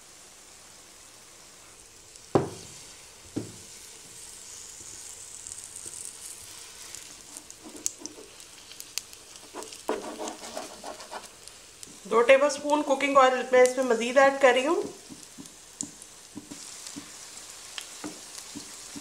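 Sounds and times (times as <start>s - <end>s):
batter sizzling in a frying pan: 0.0s - 19.0s.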